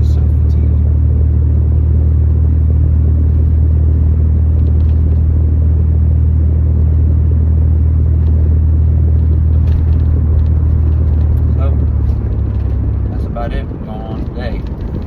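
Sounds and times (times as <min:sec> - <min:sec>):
steady low rumble inside car: 0:00.0 - 0:15.0.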